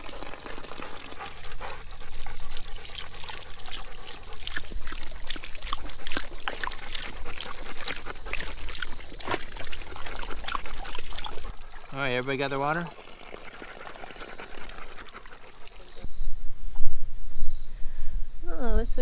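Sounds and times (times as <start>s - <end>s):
water trickling from spout: 0.0s - 16.0s
dogs lapping water: 0.0s - 16.1s.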